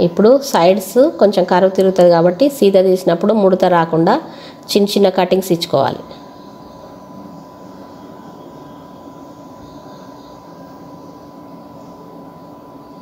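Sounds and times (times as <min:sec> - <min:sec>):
background hum and hiss: 0:00.0 - 0:13.0
faint high steady tone: 0:00.0 - 0:13.0.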